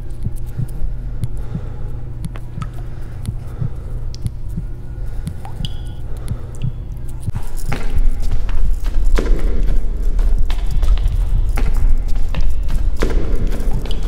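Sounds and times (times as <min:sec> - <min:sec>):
soft low thumps: 0:00.0 - 0:14.0.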